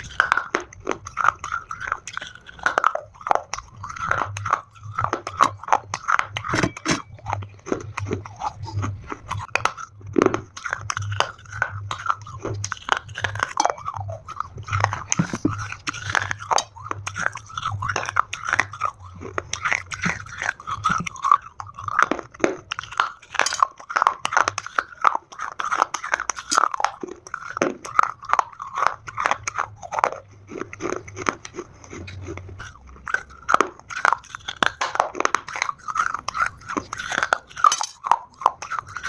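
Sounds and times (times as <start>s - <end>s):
clay being chewed crunchily: 0.0s - 39.0s.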